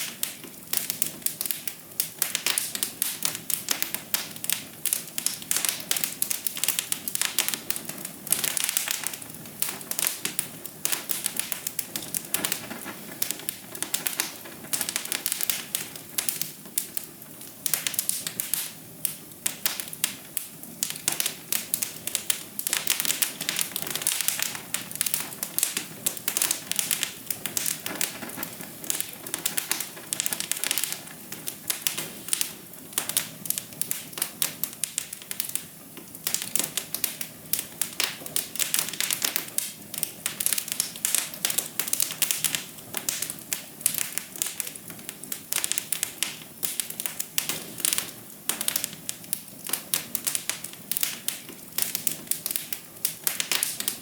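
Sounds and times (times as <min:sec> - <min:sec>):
soft steady hiss: 0:00.0 - 0:54.0
wood fire crackling: 0:00.0 - 0:54.0.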